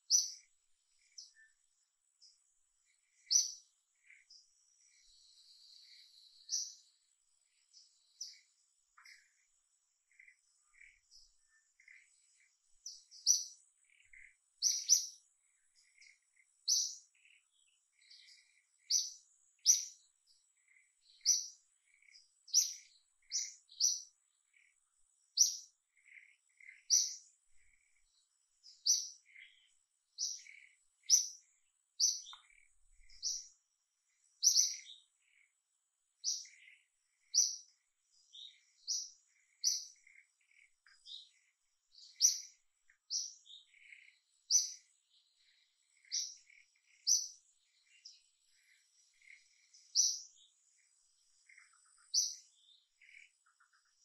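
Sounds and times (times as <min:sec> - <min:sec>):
small bird chirping: 0:00.0 - 0:54.0.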